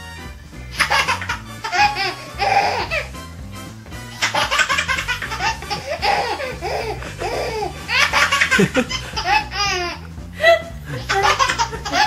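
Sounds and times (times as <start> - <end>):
baby laughing: 0.6 - 3.2, 4.1 - 12.0.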